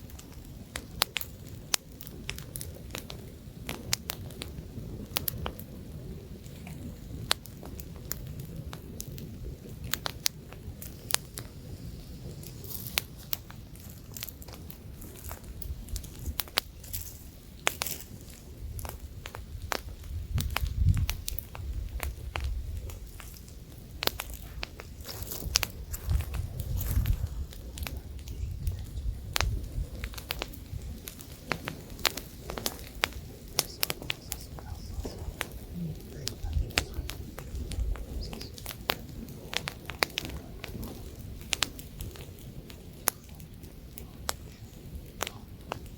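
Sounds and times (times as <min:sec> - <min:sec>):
campfire crackling and popping: 0:00.0 - 0:45.9
light wind: 0:00.0 - 0:45.9
low rumble of flame: 0:00.0 - 0:45.9.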